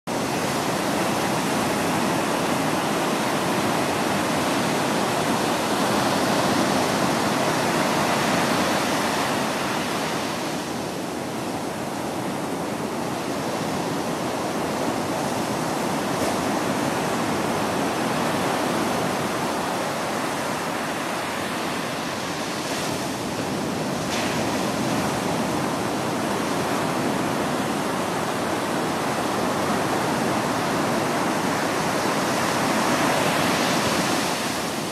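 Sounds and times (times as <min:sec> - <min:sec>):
ocean surf washing on shore: 0:00.1 - 0:34.9.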